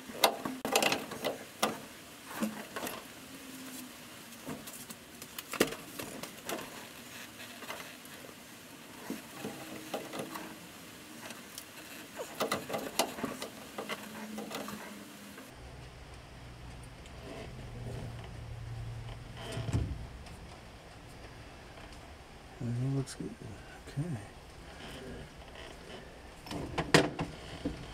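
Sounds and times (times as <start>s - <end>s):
steady hiss: 0.0s - 27.9s.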